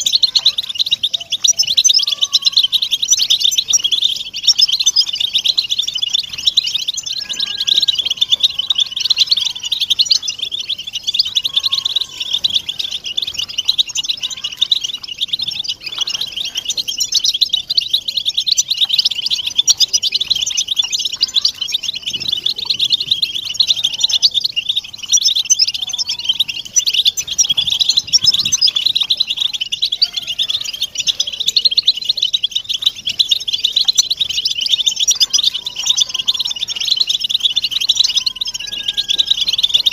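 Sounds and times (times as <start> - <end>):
flock of birds twittering: 0.0 - 39.9.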